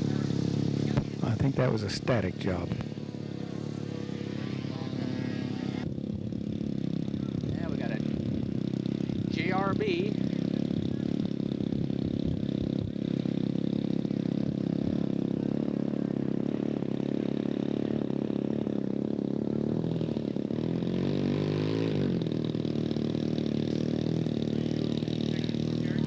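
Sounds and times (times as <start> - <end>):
model aircraft engine running: 0.0 - 26.0.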